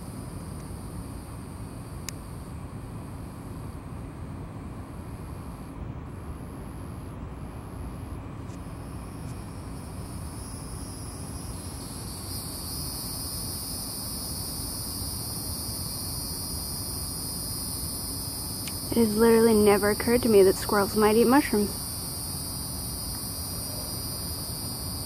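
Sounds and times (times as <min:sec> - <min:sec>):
high-pitched insect drone: 0:00.0 - 0:03.8, 0:04.7 - 0:25.0.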